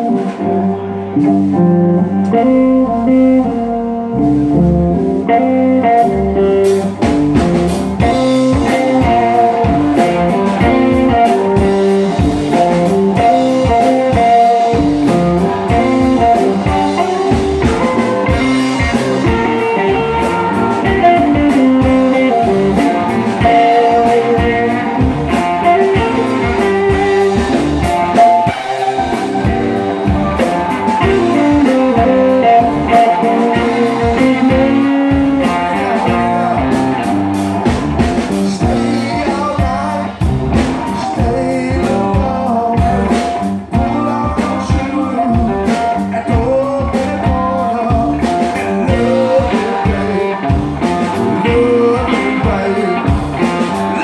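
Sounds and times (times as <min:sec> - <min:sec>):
drum kit: 0:00.0 - 0:54.0
electric bass: 0:00.0 - 0:54.0
electric guitars: 0:00.0 - 0:54.0.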